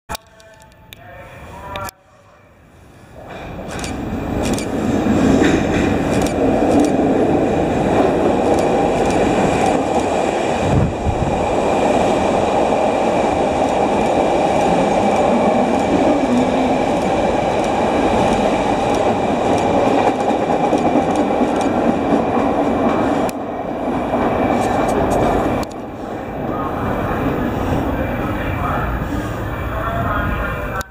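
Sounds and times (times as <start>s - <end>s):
train wheels rumbling on rails: 3.1s - 30.9s.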